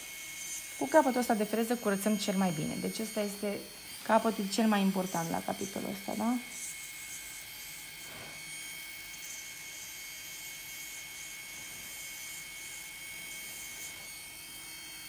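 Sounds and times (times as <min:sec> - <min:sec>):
electric nail drill whining: 0:00.0 - 0:15.0.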